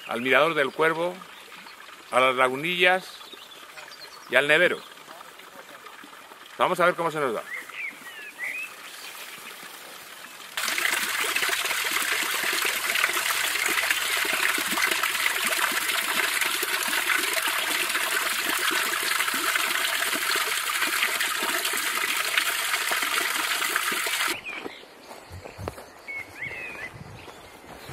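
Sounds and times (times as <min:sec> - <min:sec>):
fountain water splashing into trough: 0:00.0 - 0:07.6, 0:08.5 - 0:24.4.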